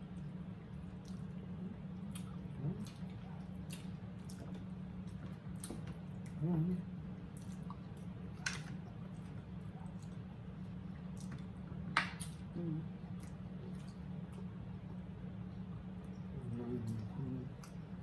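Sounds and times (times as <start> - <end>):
wet chewing and lip-smacking: 0.1 - 14.6.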